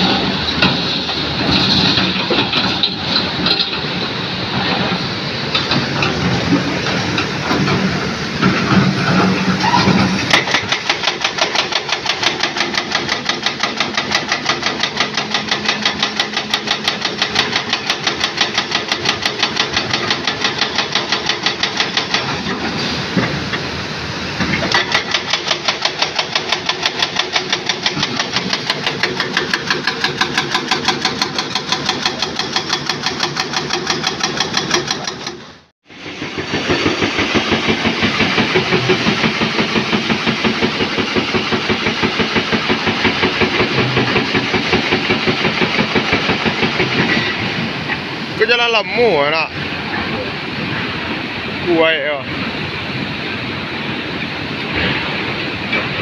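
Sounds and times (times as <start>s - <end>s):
heavy engine pulsing: 0.0s - 48.4s.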